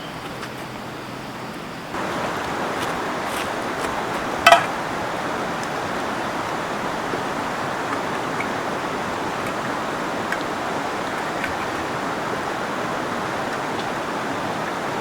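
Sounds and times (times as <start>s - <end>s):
river water rushing: 1.9s - 15.0s.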